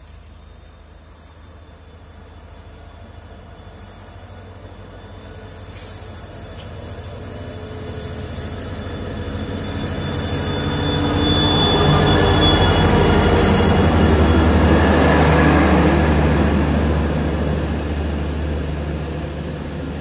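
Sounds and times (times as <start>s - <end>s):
diesel locomotive engine drone: 0.0s - 20.0s
train wheels rumbling on rails: 0.0s - 20.0s.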